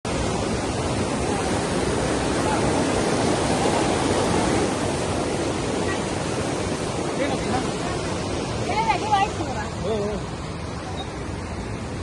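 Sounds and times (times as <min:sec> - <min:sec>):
floodwater rushing: 0:00.1 - 0:12.0.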